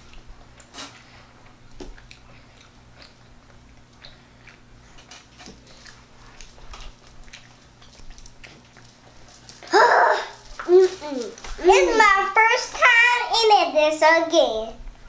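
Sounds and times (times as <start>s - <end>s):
children chewing: 0.0s - 12.8s
faint steady hum: 0.0s - 15.0s.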